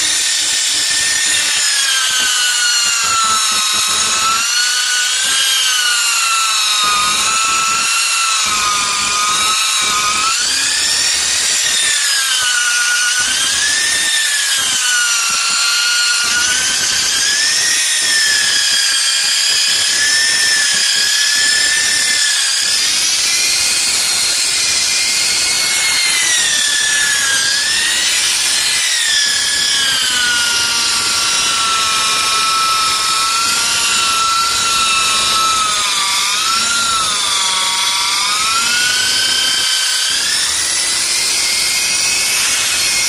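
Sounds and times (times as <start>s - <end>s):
electric polisher motor whine: 0.0s - 43.0s.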